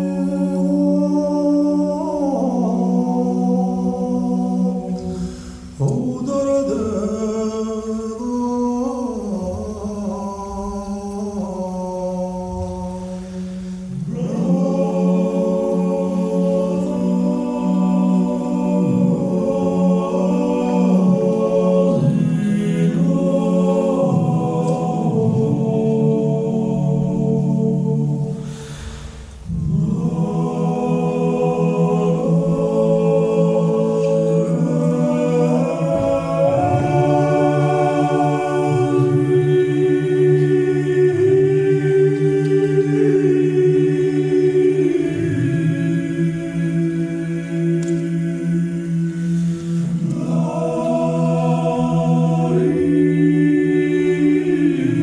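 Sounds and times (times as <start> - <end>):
group singing a cappella: 0.0 - 55.0
low vocal drone: 0.0 - 55.0.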